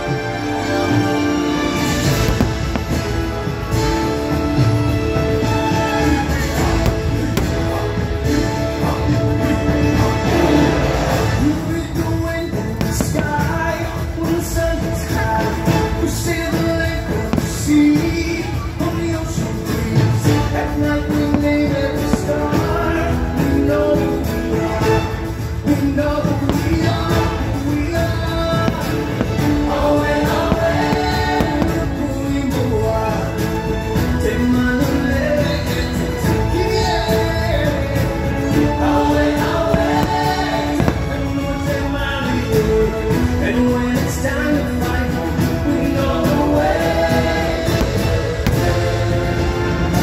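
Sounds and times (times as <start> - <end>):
fireworks bursting: 0.0 - 50.0
music with singing: 0.0 - 50.0.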